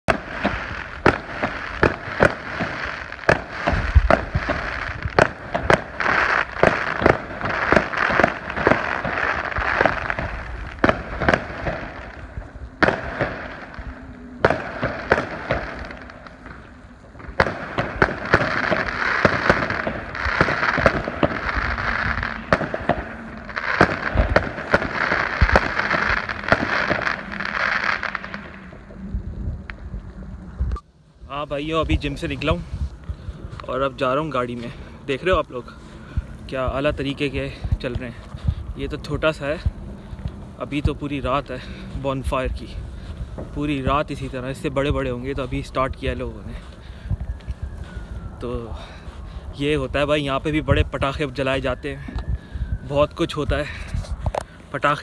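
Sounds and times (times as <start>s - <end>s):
fireworks bangs and crackling: 0.0s - 30.7s, 31.3s - 55.0s.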